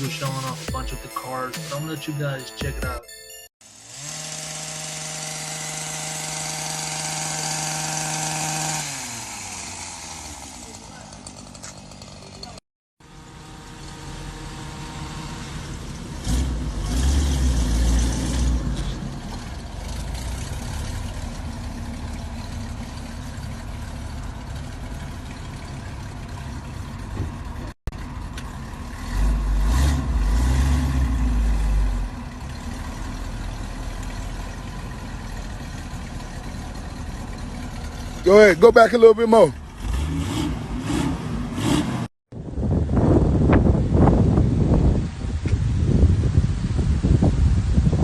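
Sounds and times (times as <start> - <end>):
car engine idling and revving: 0.0 - 1.0, 3.6 - 48.0.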